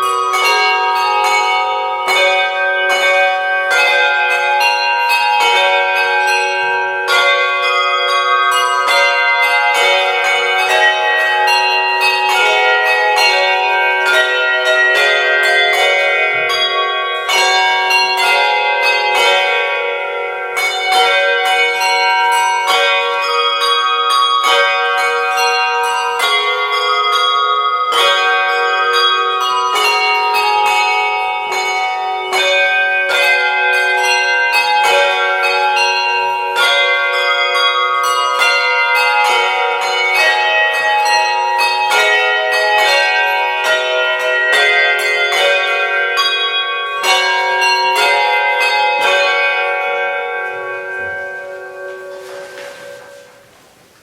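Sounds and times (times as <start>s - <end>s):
handbells playing a melody: 0.0s - 54.0s.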